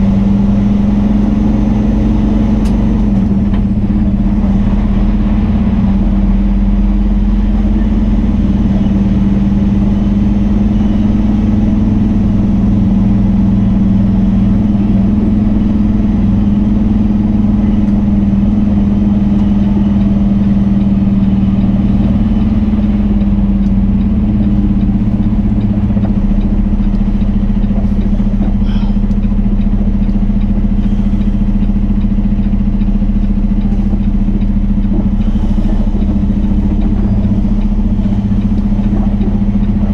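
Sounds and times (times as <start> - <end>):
truck diesel engine droning: 0.0 - 39.9.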